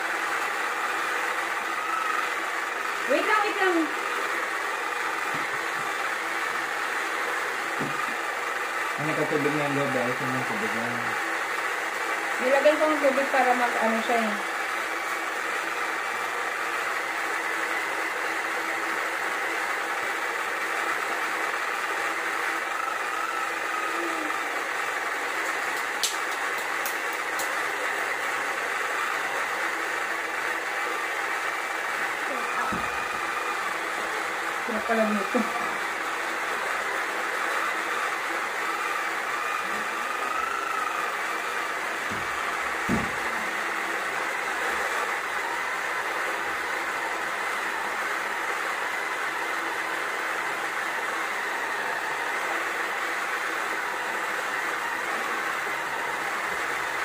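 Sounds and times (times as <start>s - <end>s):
small electric motor whirring: 0.0s - 57.0s.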